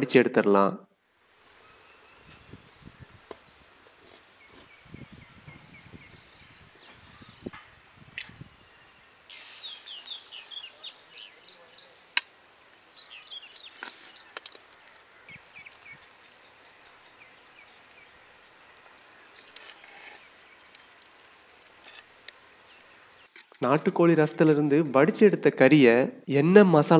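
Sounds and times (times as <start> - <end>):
small birds chirping: 1.1 - 23.4.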